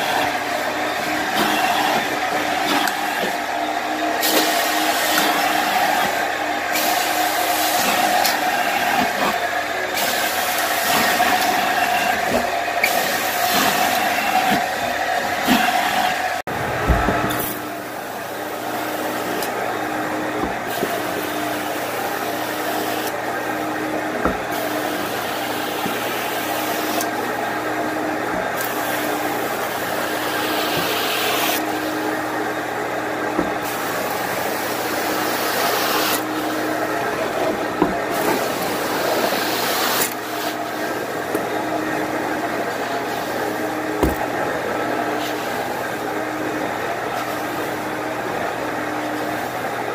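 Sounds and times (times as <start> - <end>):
carpet cleaning machine running: 0.0 - 49.9.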